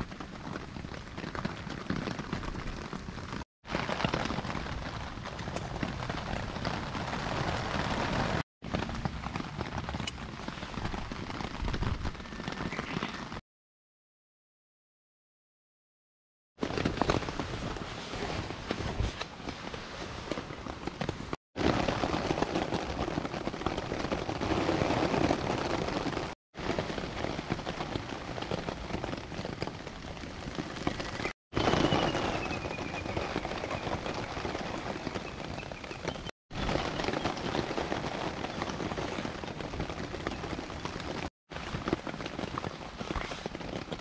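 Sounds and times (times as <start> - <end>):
rain on a tarp: 0.0 - 13.4, 16.6 - 44.0.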